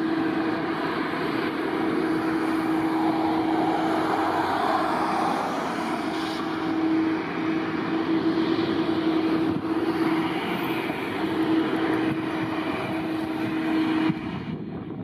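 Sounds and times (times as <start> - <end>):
airliner engines rushing: 0.0 - 15.0
steady engine hum: 0.0 - 15.0.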